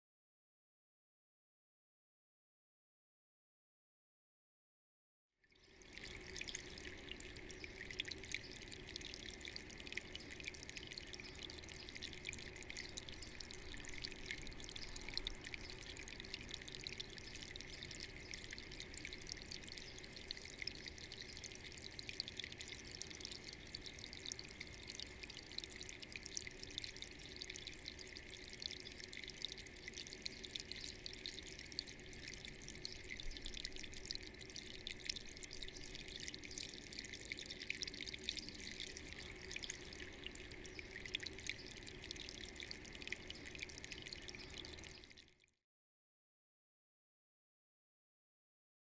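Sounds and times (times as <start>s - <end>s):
fountain water trickling and splashing: 5.5s - 45.4s.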